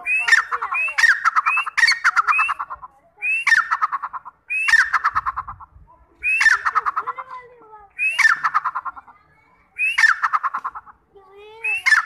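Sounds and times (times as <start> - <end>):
partridge calling: 0.0 - 12.0.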